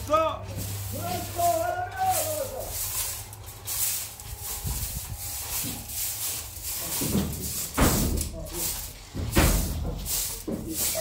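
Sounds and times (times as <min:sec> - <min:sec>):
scraping and rubbing: 0:00.5 - 0:11.0.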